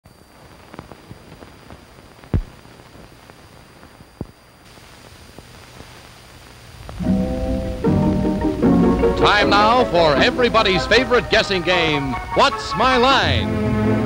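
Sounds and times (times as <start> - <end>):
faint high whine: 0.1 - 14.0
recording hiss with clicks and pops: 0.1 - 14.0.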